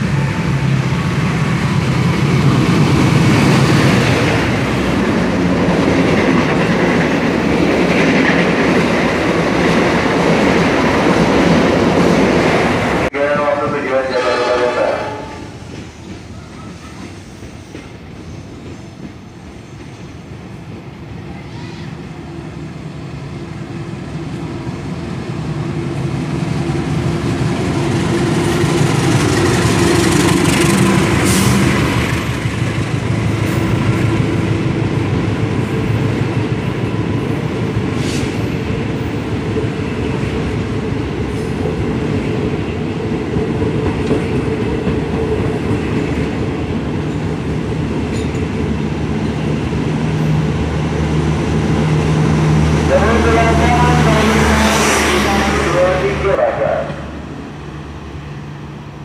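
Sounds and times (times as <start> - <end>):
diesel locomotive engine hum: 0.0 - 59.0
train wheels rumbling on rails: 0.0 - 59.0.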